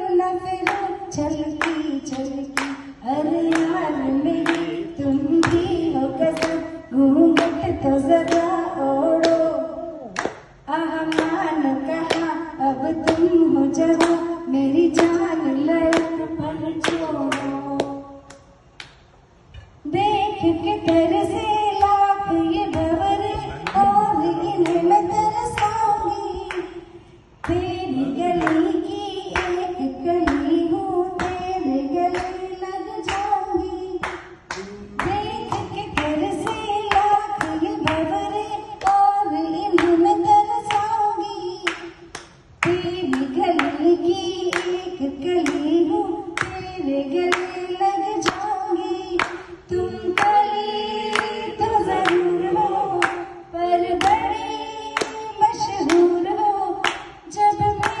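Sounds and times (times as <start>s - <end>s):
woman singing through loudspeaker: 0.0s - 18.5s, 19.8s - 58.0s.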